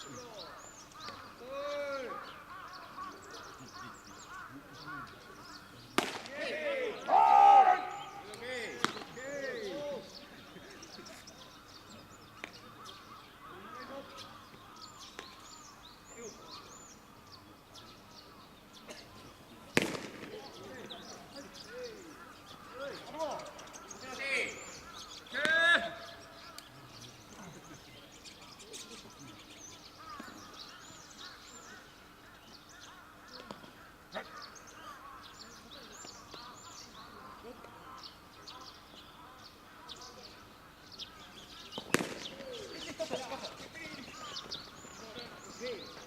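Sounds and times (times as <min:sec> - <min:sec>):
birds chirping: 0:00.0 - 0:46.0
distant voices: 0:00.0 - 0:46.0.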